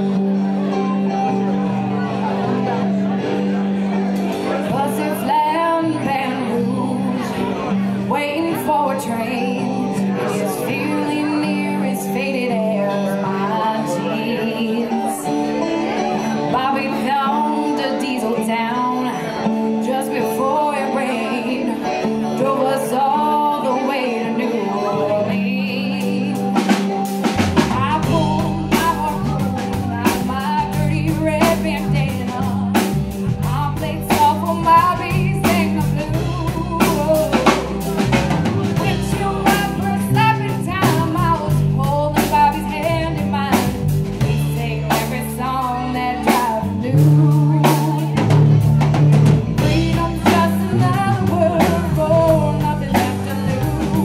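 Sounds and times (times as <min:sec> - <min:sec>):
bass and drum kit: 0:00.0 - 0:54.0
live rock band playing: 0:00.0 - 0:54.0
woman singing: 0:04.5 - 0:27.0, 0:27.6 - 0:48.9, 0:49.6 - 0:54.0.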